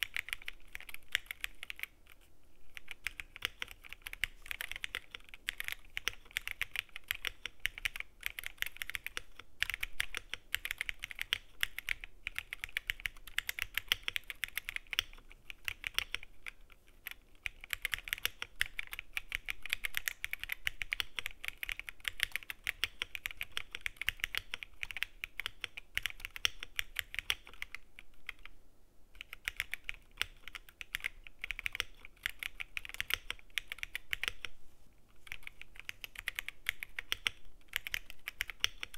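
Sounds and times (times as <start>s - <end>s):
mechanical keyboard typing: 0.0s - 28.6s, 29.2s - 34.6s, 35.2s - 38.9s.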